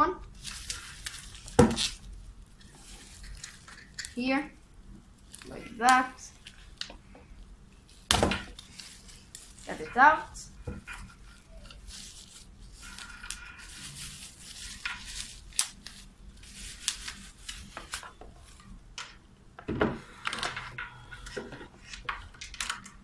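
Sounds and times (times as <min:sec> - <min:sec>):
bubble wrap rustling and crinkling: 0:00.2 - 0:18.8.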